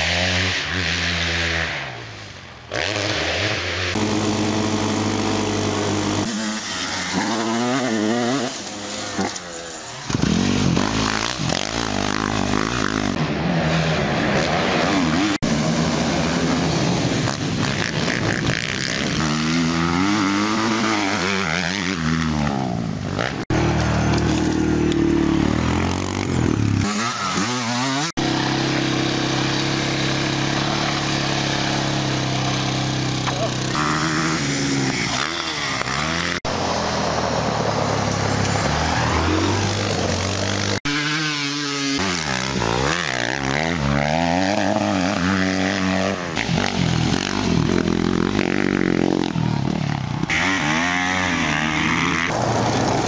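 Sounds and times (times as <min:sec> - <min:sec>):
motorbike and atv engines revving: 0:00.0 - 0:53.0.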